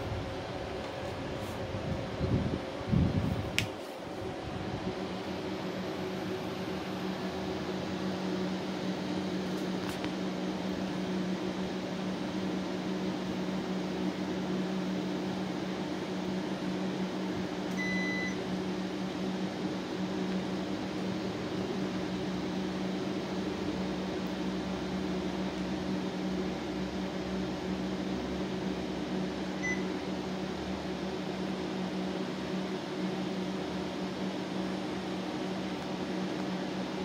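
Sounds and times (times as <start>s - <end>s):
air conditioner hum: 0.0s - 37.0s.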